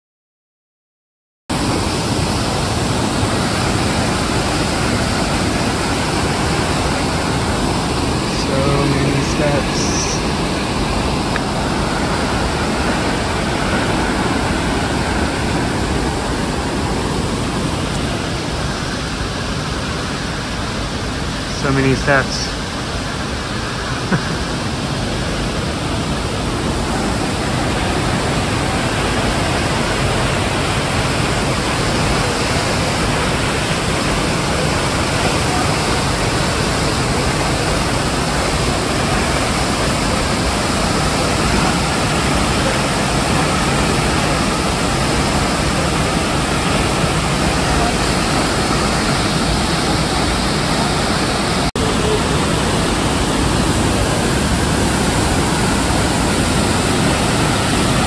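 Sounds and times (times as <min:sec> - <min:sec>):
waterfall rushing: 0:01.5 - 0:58.0.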